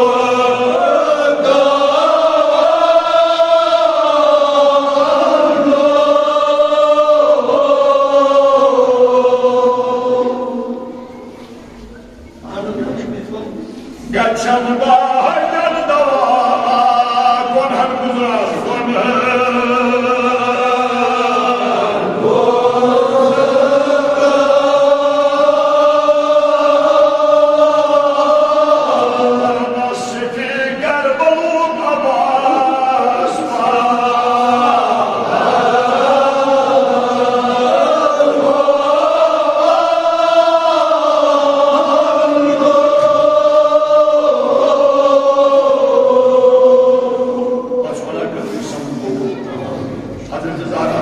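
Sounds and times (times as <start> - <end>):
men chanting a lament: 0.0 - 11.0, 14.0 - 49.0.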